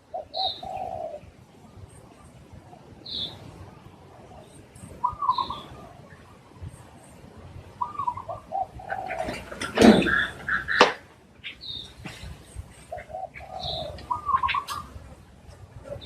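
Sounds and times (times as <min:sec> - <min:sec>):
dove cooing: 0:00.0 - 0:11.0, 0:12.1 - 0:16.0
bird chirps: 0:00.0 - 0:15.0.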